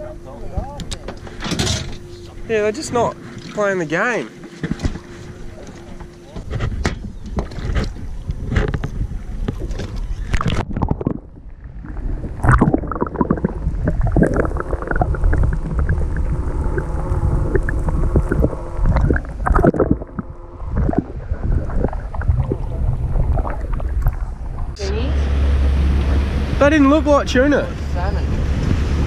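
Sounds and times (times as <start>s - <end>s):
muffled water gurgling and sloshing: 0.0s - 29.0s
steady hum: 0.0s - 29.0s.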